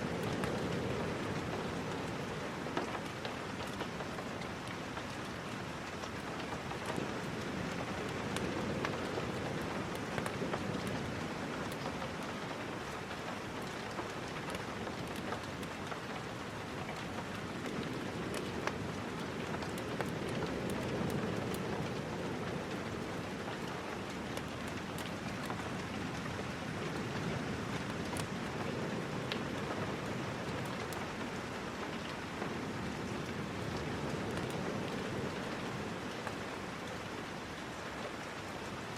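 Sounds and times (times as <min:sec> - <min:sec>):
sharp ticks of raindrops: 0:00.0 - 0:38.9
steady rain falling: 0:00.0 - 0:38.9.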